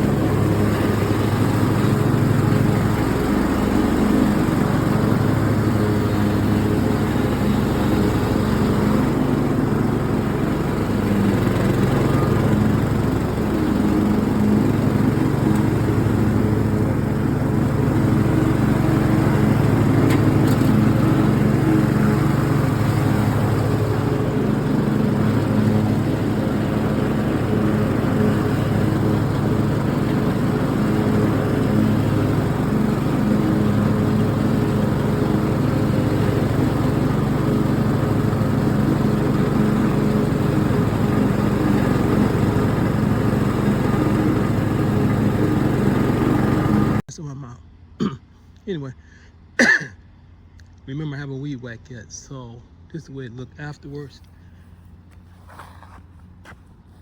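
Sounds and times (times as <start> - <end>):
ride-on lawn mower engine: 0.0 - 47.0, 48.9 - 57.0.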